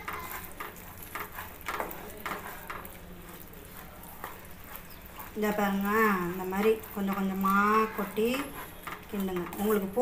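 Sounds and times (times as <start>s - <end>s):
low sizzle: 0.0s - 10.0s
spatula scraping a pan: 0.0s - 10.0s.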